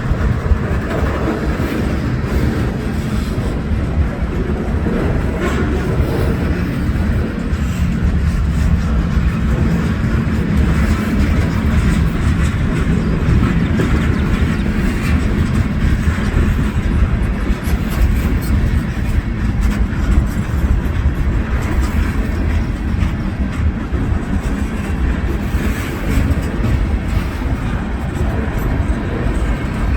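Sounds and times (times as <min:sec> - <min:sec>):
train rumbling past: 0:00.0 - 0:29.9
wheels clattering on rails: 0:00.0 - 0:29.9.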